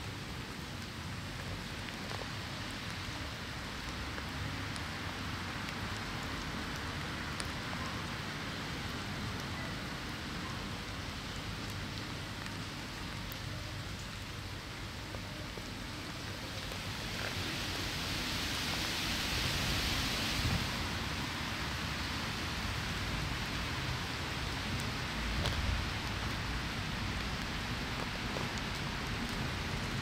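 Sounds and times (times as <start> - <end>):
rain falling: 0.0 - 30.0.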